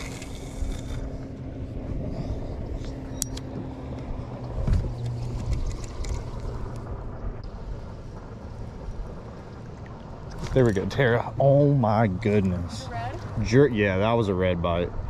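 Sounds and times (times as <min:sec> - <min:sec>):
boat motor hum: 0:00.0 - 0:15.0
wind and water noise: 0:00.0 - 0:15.0.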